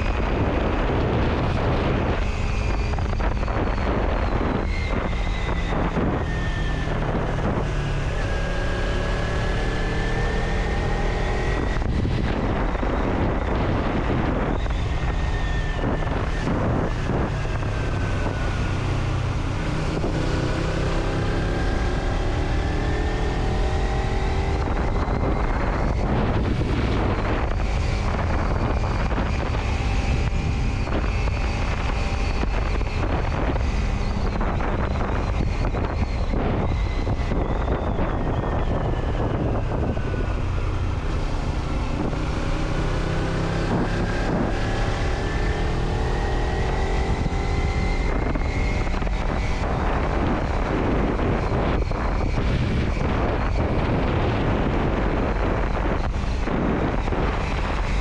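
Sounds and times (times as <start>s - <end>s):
faint engine whine: 0.0s - 58.0s
road and wind noise: 0.0s - 58.0s.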